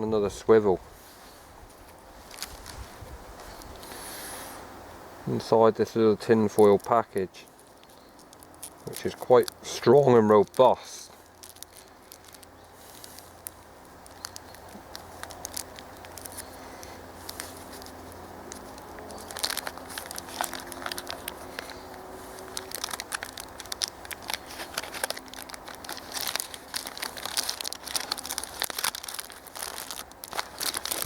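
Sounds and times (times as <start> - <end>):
tin foil crinkling: 1.7 - 4.1, 6.2 - 31.0.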